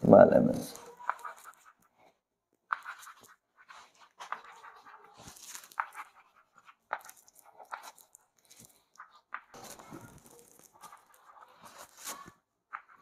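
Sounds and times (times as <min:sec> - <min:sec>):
chalk scratching on chalkboard: 0:00.8 - 0:13.0.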